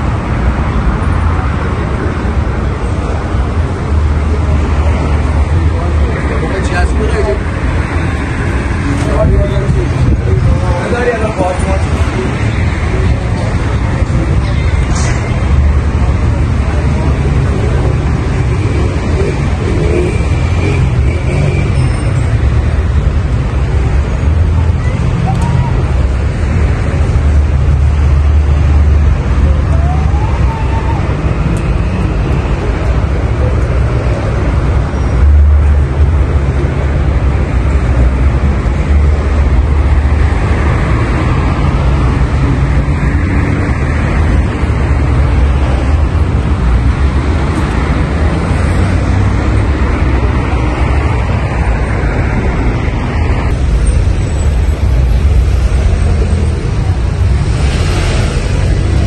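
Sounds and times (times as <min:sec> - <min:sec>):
slow city traffic rumbling: 0:00.0 - 0:59.0.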